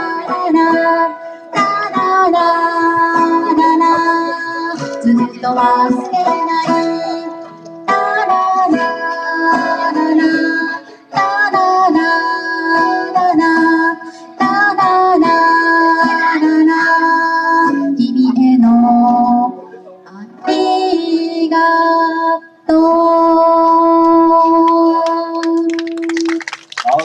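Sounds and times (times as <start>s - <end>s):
guitar playing sustained chords: 0.0s - 25.3s.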